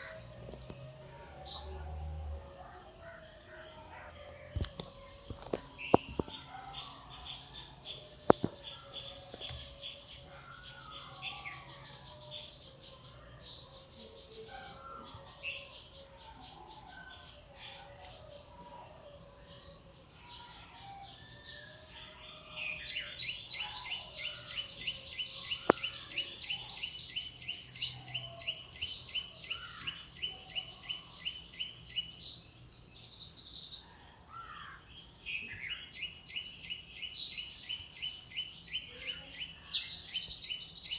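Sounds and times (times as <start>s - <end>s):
birds chirping and calling: 0.0s - 32.4s, 34.3s - 40.9s.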